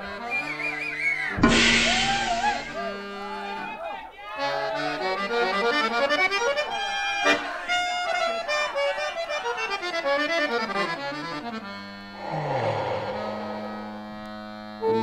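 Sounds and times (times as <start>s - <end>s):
lively instrumental music: 0.0s - 15.0s.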